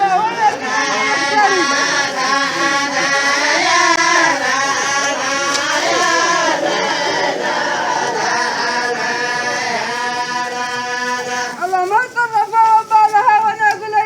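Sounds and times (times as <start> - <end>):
group of voices chanting: 0.0 - 11.7.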